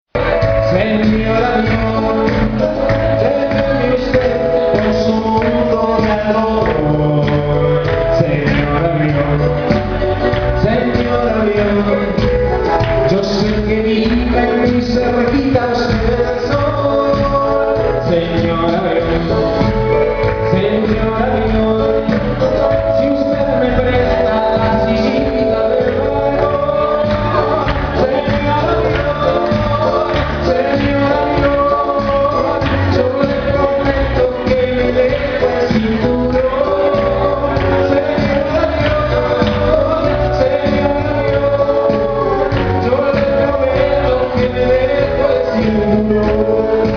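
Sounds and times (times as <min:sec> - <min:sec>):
live band playing: 0:00.1 - 0:46.9
person singing: 0:00.2 - 0:46.9.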